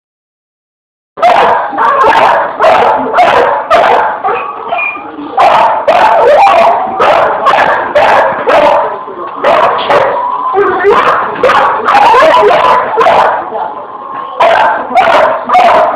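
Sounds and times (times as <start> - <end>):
dog barking excitedly: 1.2 - 10.2, 10.8 - 13.5, 14.4 - 15.9.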